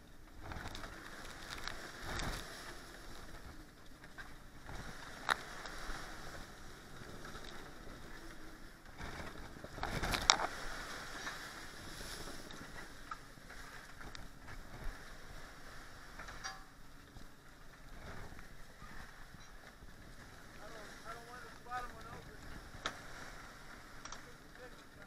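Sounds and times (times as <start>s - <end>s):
sea water rushing along hull: 0.0s - 25.0s
wave slapping hull: 0.0s - 25.0s.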